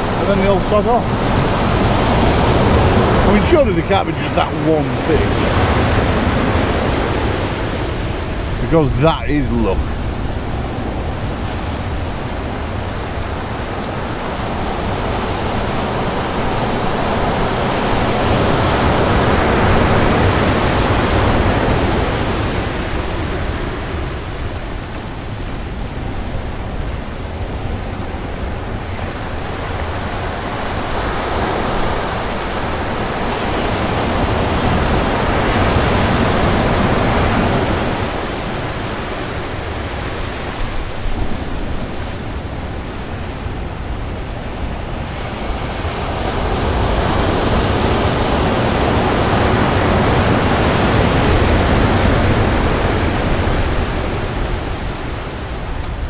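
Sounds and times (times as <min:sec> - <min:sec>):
sea surf breaking: 0:00.0 - 0:56.0.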